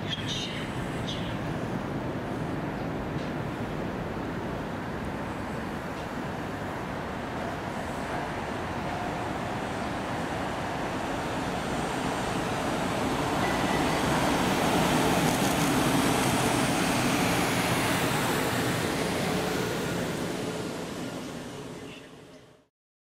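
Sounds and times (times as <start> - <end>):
locomotive passing at speed: 0.2 - 22.5.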